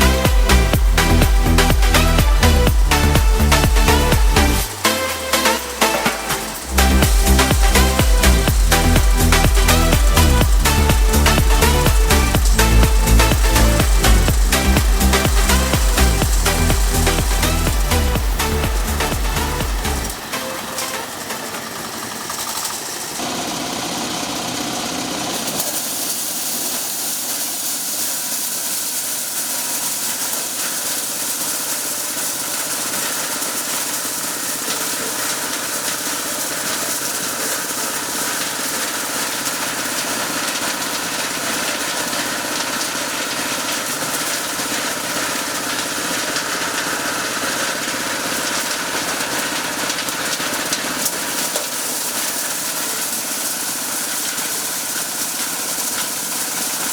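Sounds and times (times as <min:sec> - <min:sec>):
corn sheller running: 0:00.0 - 0:56.9.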